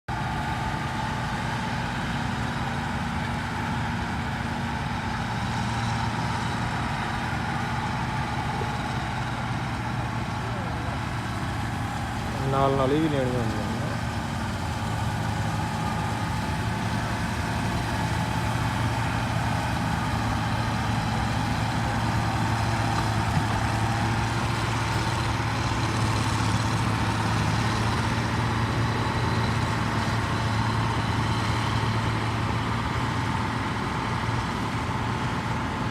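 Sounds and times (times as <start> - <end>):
harvester engine droning: 0.1 - 35.9.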